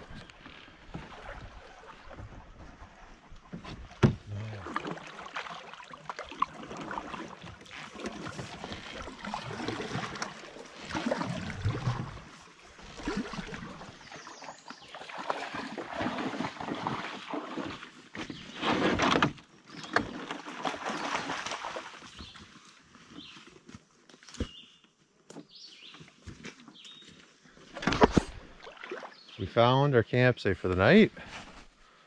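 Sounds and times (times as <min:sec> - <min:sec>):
water sloshing around canoe: 0:00.0 - 0:23.7, 0:24.4 - 0:29.5.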